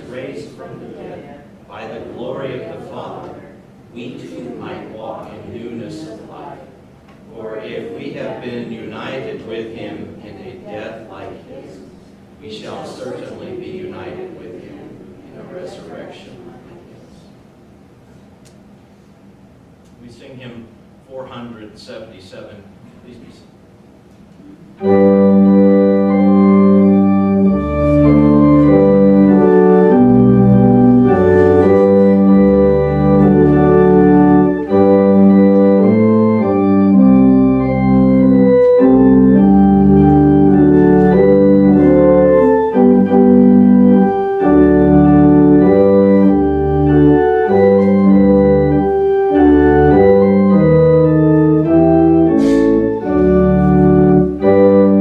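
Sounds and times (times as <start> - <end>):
organ playing a hymn: 0.0 - 6.6, 7.3 - 16.6, 24.6 - 55.0.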